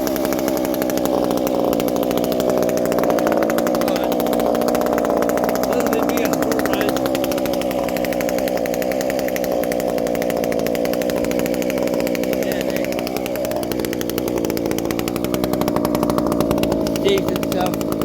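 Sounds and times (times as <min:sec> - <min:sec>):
chainsaw running at high revs: 0:00.0 - 0:18.0.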